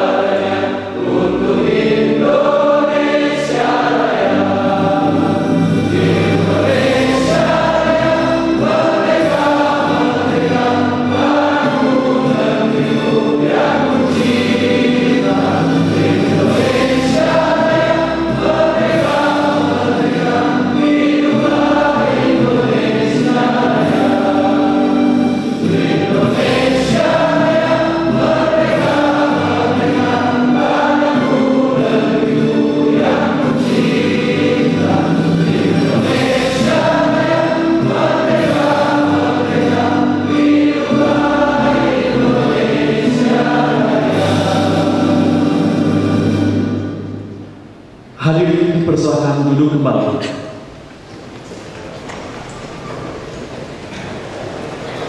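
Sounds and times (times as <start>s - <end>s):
choir singing slow song: 0.0s - 48.1s.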